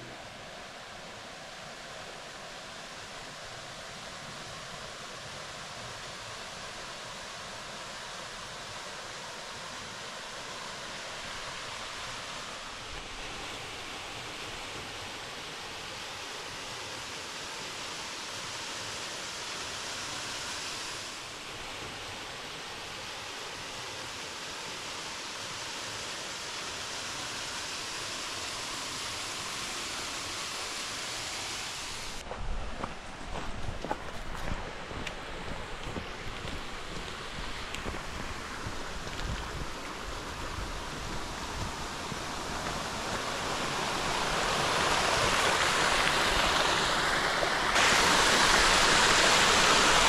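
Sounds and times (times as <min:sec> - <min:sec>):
fast-flowing water rushing: 0:00.0 - 0:50.0.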